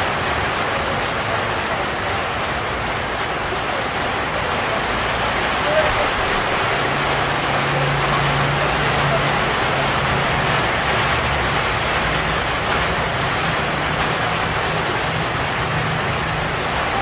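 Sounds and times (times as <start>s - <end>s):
rain on road and leaves: 0.0s - 17.0s.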